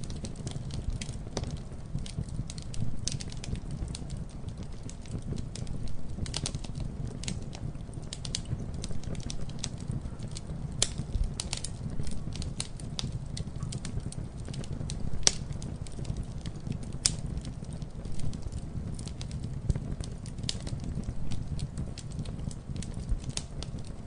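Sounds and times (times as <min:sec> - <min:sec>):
campfire burning rumble: 0:00.0 - 0:24.0
wood snapping and popping: 0:00.0 - 0:24.0.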